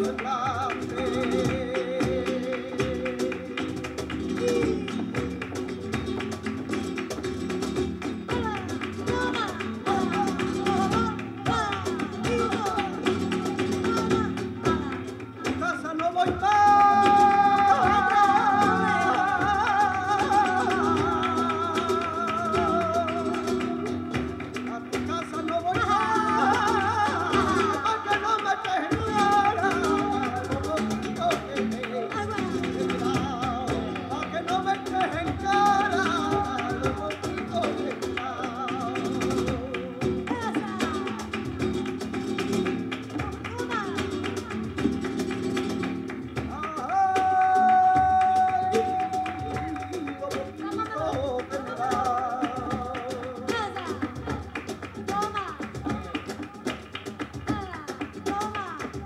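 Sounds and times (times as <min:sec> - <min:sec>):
acoustic guitar: 0:00.0 - 0:59.0
man singing: 0:00.0 - 0:59.0
percussion and sharp taps: 0:00.0 - 0:59.0.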